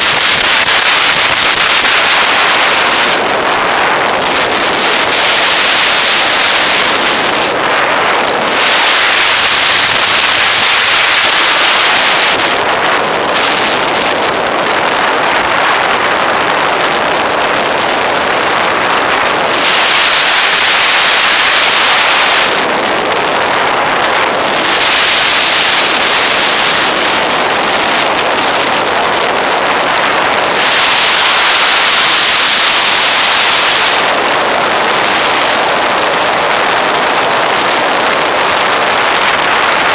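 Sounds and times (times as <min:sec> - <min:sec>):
motorcycle road noise: 0:00.0 - 0:39.9
wind rushing over microphone: 0:00.0 - 0:39.9.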